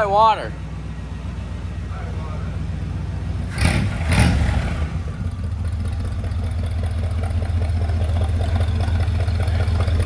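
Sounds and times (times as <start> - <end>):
car engine revving and idling: 0.0 - 10.0.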